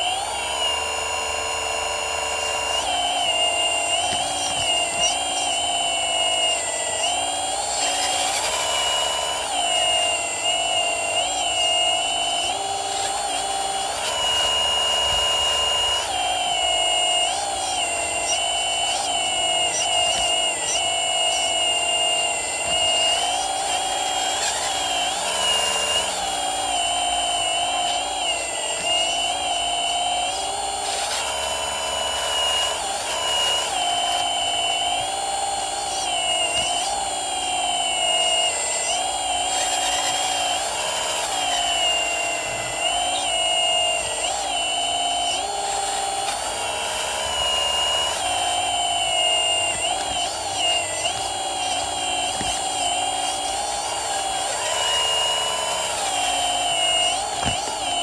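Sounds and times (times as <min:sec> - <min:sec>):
electric motor and pump whining: 0:00.0 - 0:58.0.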